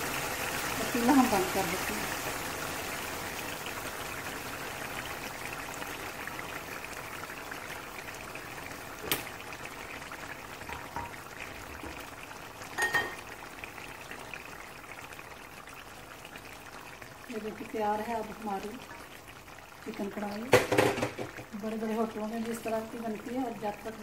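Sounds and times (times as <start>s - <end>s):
gravy sizzling and crackling: 0.0s - 24.0s.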